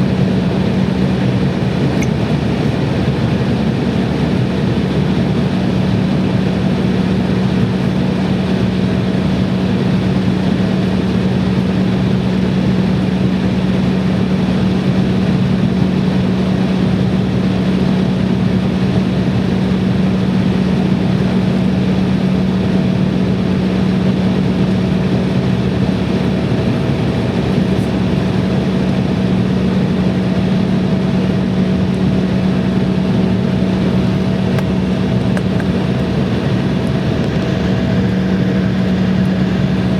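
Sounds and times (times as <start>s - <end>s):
jet engines humming at low power: 0.0s - 39.9s.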